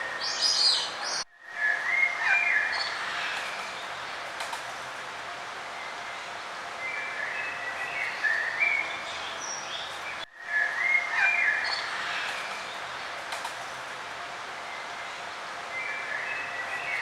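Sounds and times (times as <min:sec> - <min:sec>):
songbirds chirping: 0:00.0 - 0:04.4, 0:05.1 - 0:13.2, 0:14.1 - 0:17.0
outdoor background hiss: 0:00.0 - 0:17.0.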